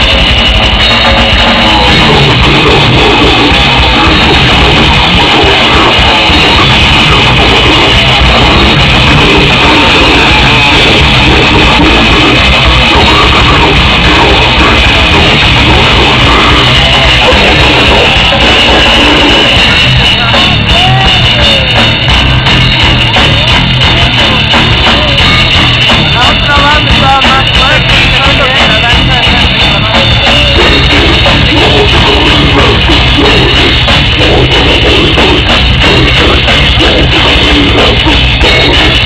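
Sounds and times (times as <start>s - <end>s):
distorted electric guitars: 0.0s - 39.0s
drum kit: 0.0s - 39.0s.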